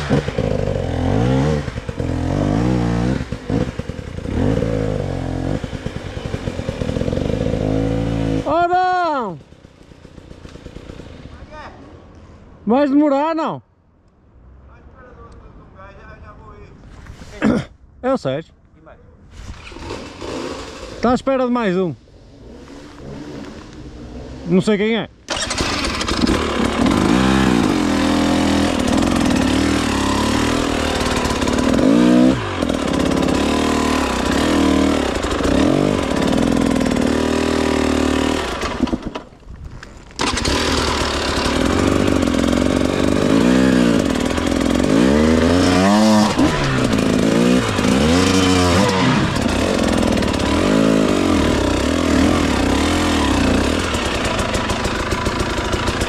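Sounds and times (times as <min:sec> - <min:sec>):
two-stroke engine revving: 0:00.0 - 0:11.4, 0:19.6 - 0:21.0, 0:22.3 - 0:39.3, 0:40.2 - 0:56.0.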